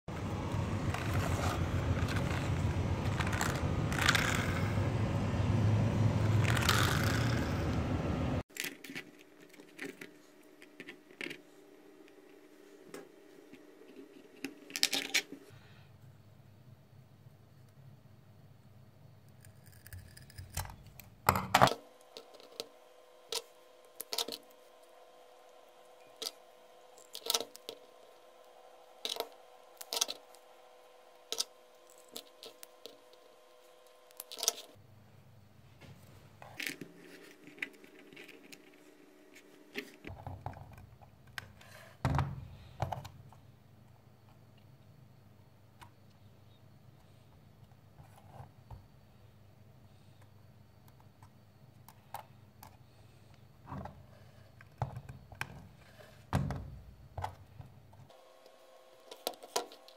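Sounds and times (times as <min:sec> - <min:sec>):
faint steady hum: 0:00.1 - 0:59.9.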